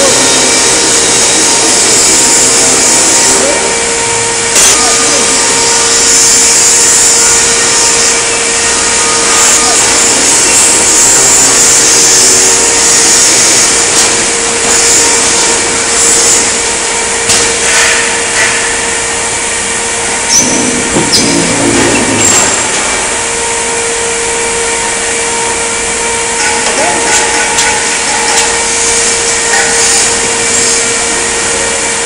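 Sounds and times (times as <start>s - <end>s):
machinery hum: 0.0s - 32.0s.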